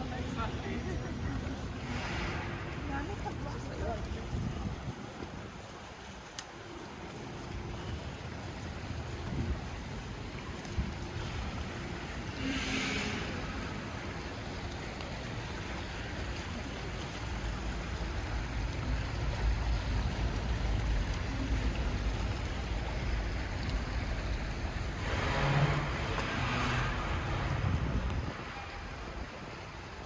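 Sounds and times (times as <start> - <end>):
traffic on wet roads: 0.0 - 30.0
rain hissing: 1.7 - 30.0.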